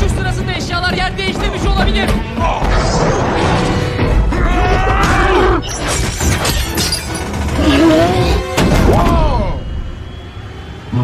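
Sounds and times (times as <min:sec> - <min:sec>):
action film music: 0:00.0 - 0:11.0.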